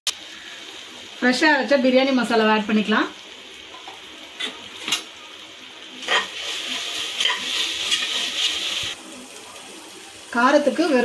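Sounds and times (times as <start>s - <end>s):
onion and tomato sizzling in oil: 0.1s - 11.0s.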